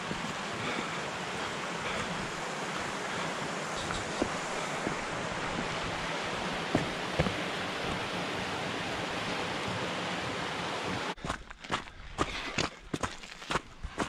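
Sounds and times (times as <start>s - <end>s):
flood water rushing over rocks: 0.0s - 14.0s.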